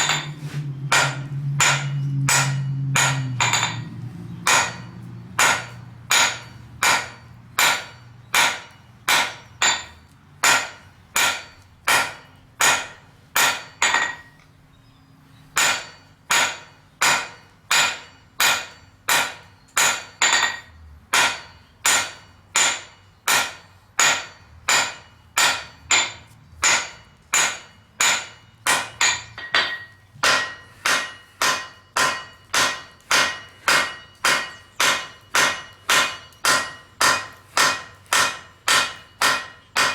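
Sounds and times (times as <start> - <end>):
hammer striking steel on anvil: 0.0 - 14.4, 15.6 - 39.9.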